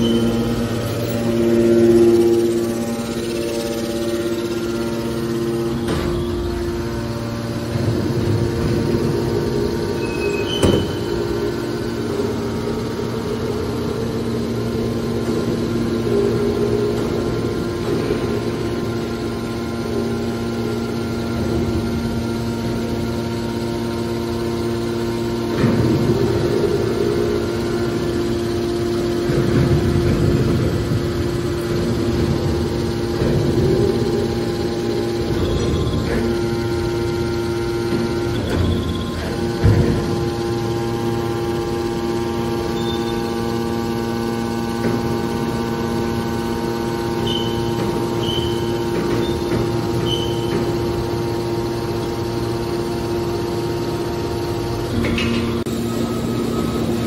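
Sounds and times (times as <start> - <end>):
baling press motor hum: 0.0 - 57.0.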